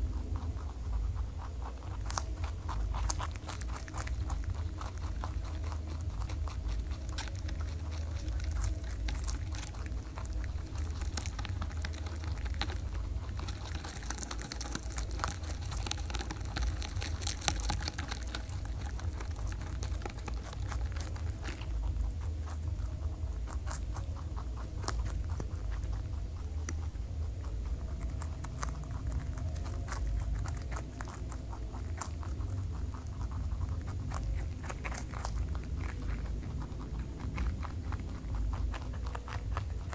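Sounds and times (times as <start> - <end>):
rabbits chewing vegetables: 0.0 - 39.9
steady low hum: 0.0 - 39.9.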